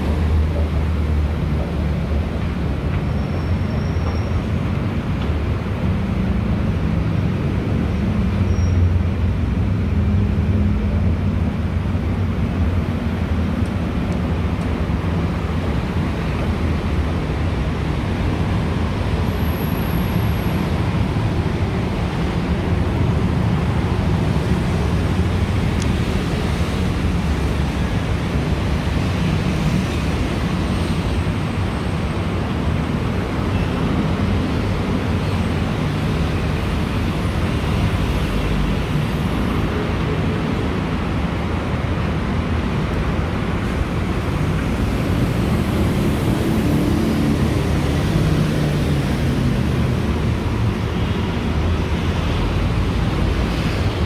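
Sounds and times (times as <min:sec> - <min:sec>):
city road traffic rumble: 0:00.0 - 0:54.0.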